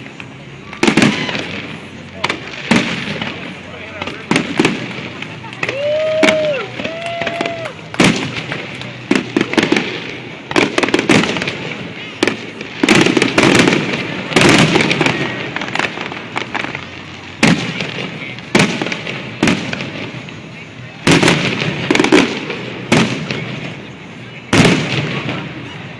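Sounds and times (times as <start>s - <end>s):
fireworks bursting with bangs: 0.0s - 25.9s
fireworks crackling: 0.0s - 25.9s.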